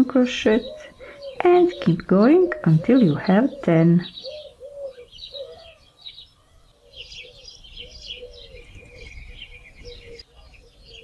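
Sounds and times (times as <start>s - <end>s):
small birds twittering: 0.0s - 11.0s.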